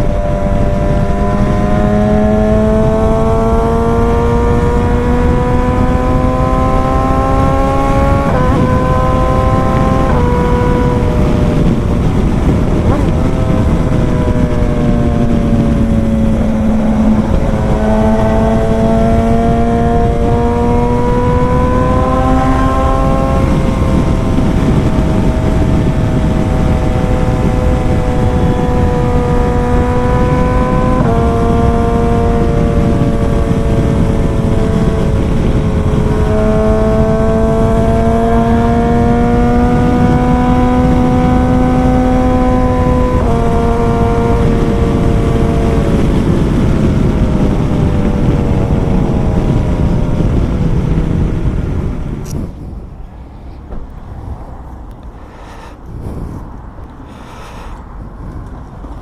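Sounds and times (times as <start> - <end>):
heavy wind rush: 0.0 - 59.0
motorcycle engine accelerating: 0.0 - 59.0.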